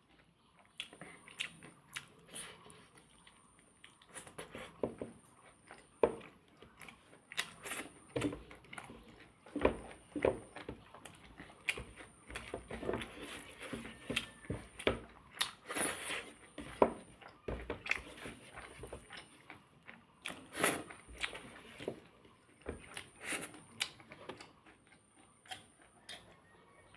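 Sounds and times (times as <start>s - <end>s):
person chewing crunchy food: 0.0s - 26.9s.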